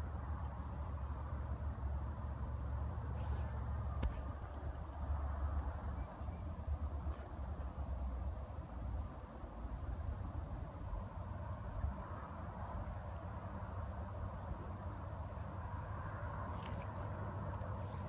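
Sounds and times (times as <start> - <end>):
faint high ticks: 0.1 - 18.0.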